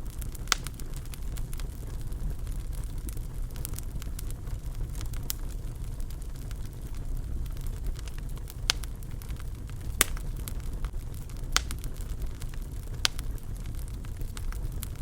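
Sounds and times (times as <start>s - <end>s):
fire crackling: 0.0s - 15.0s
loud fire pops: 0.0s - 15.0s
low rumble of flames: 0.0s - 15.0s.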